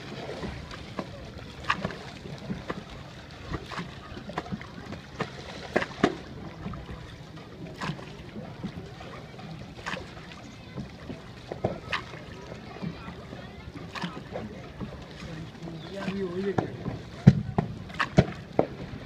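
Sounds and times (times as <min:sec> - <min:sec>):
boat engine low rumble: 0:00.0 - 0:19.0.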